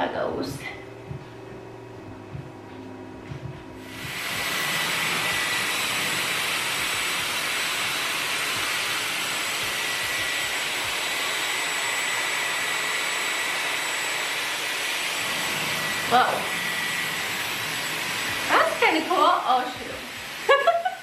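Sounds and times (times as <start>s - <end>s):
high motor whine: 0.9s - 20.8s
hair styler air rushing: 3.8s - 21.0s.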